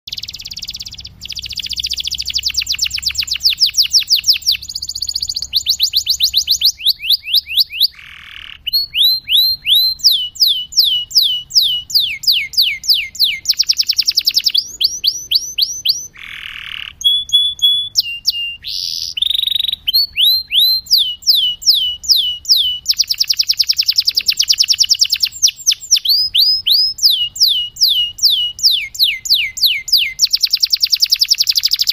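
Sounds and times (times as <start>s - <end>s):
canary singing: 0.1s - 31.9s.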